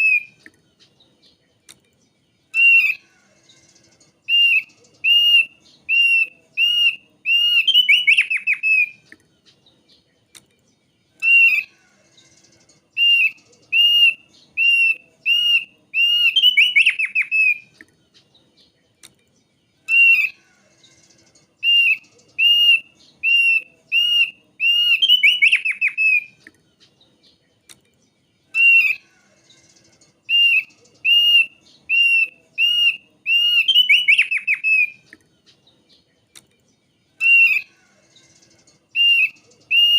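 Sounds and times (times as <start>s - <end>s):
bird whistling song with trill: 0.0s - 1.4s, 2.0s - 10.0s, 11.2s - 17.8s, 19.8s - 27.4s, 28.5s - 35.1s, 37.2s - 39.9s.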